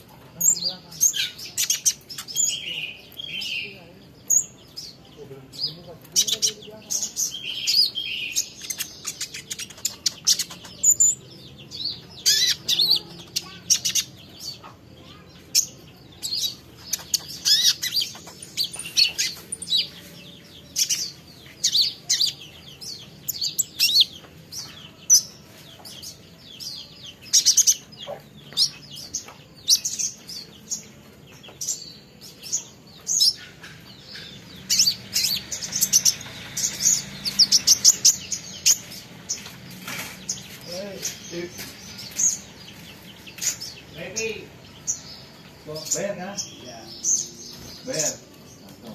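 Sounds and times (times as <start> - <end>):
small songbird chirping: 0.0 - 48.9.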